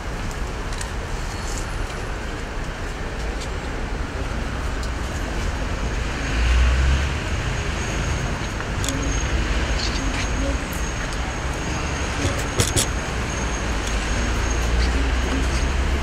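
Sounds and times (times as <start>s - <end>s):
low rumble of road traffic: 0.0s - 16.0s.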